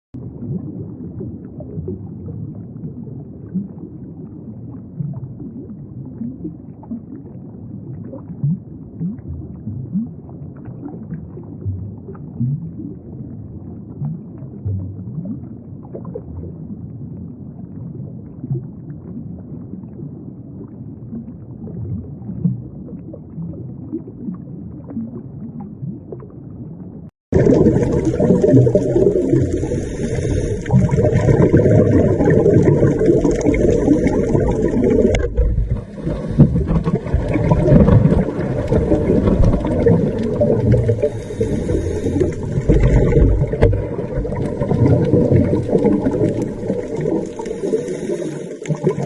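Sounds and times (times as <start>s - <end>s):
bubbling pops and gurgles: 0.2s - 48.0s, 48.6s - 49.0s
underwater low rumbling wash: 0.2s - 49.0s.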